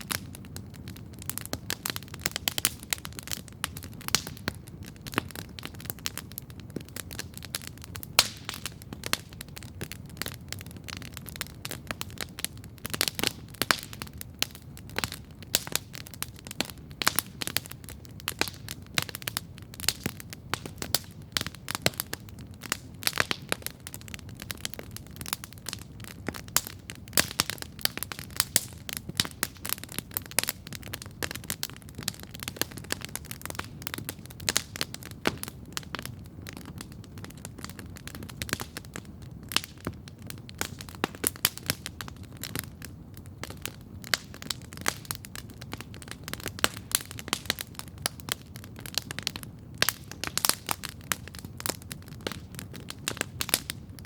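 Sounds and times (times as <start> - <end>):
campfire crackling and popping: 0.0 - 54.0
low rumble of burning: 0.0 - 54.0.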